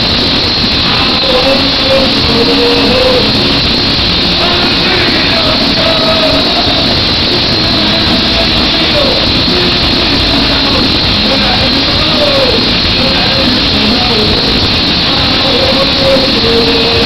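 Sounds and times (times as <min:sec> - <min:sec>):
faint voices: 0:00.0 - 0:17.0
live punk band playing: 0:00.0 - 0:17.0
crowd cheering: 0:00.8 - 0:17.0.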